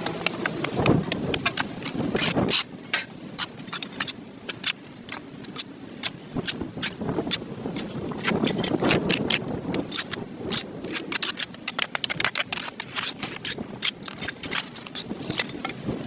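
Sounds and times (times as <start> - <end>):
tool scraping concrete: 0.0 - 15.8.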